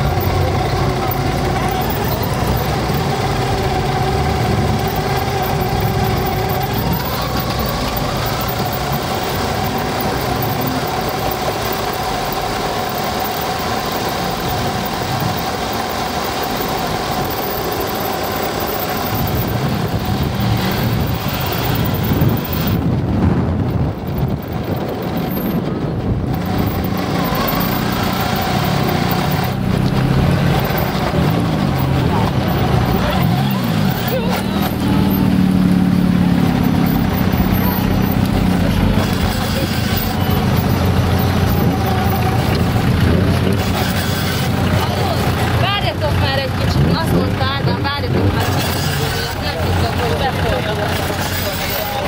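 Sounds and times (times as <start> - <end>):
tyre and road rumble: 0.0 - 52.0.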